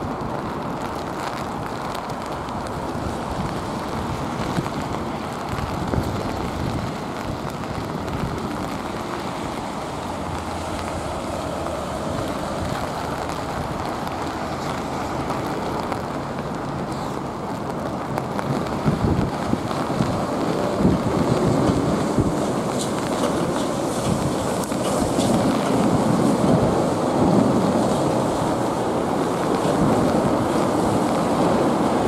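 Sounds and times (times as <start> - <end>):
rain: 0.0 - 32.0
wind gusts buffeting microphone: 0.0 - 32.0.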